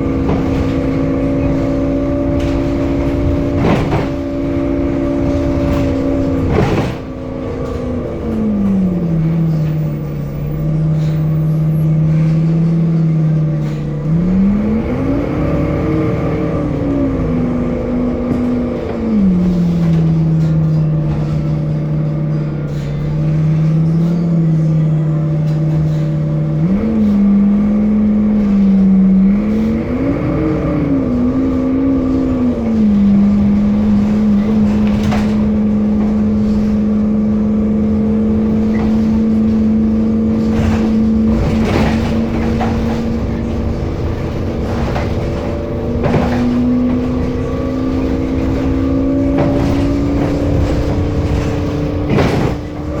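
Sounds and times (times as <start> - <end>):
bus engine humming: 0.0 - 53.0.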